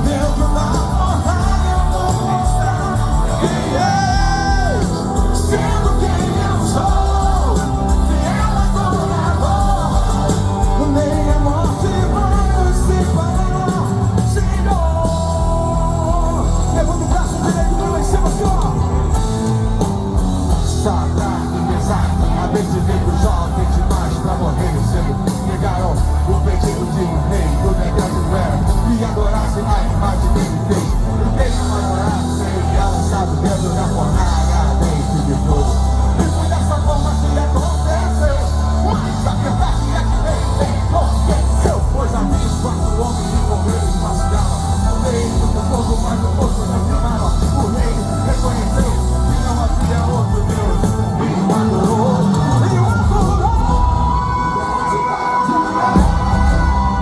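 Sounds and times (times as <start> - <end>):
live band with singer: 0.0 - 57.0.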